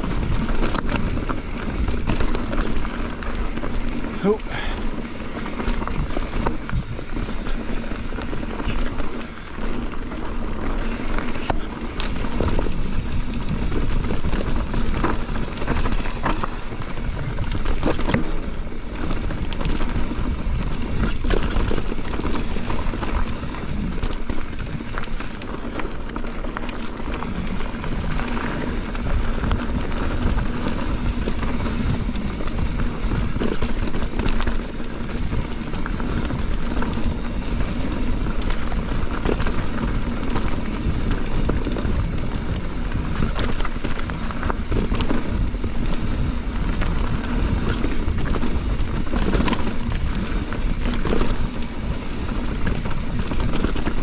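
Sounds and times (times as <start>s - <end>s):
bike knocks and rattles: 0.0s - 54.0s
bike tyres rumbling over dirt: 0.0s - 54.0s.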